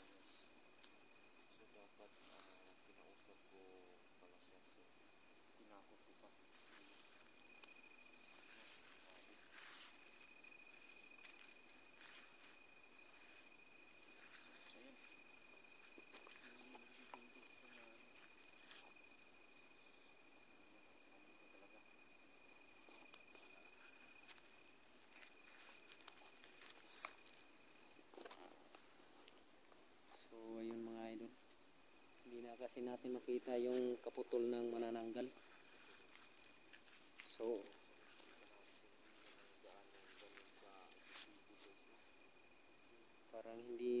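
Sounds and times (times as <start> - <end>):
crickets chirring: 0.0 - 44.0
faint ticks and rustles: 0.0 - 44.0.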